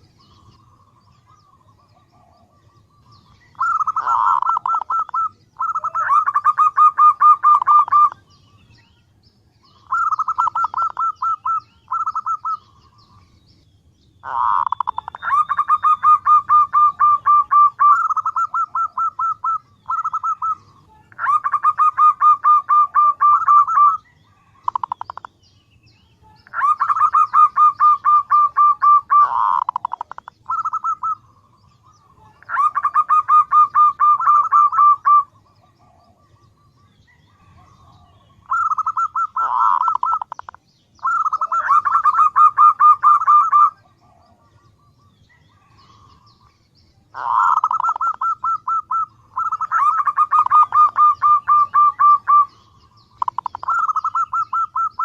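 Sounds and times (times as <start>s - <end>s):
dove calling: 0.0s - 55.0s.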